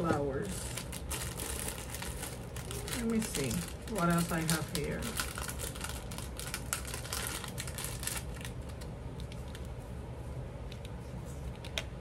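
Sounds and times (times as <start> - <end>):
craft supplies crinkling and rustling: 0.0 - 9.7.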